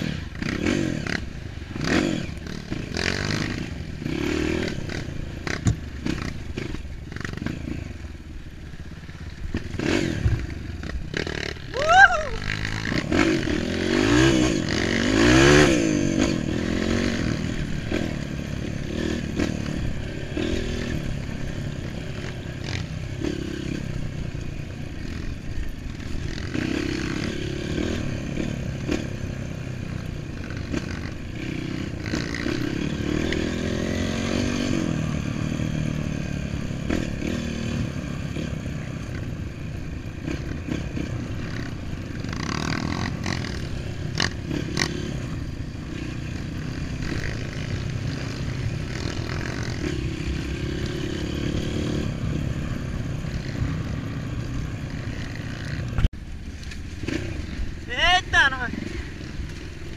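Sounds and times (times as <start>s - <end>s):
dirt bike engine revving: 0.0s - 56.1s, 56.8s - 59.9s.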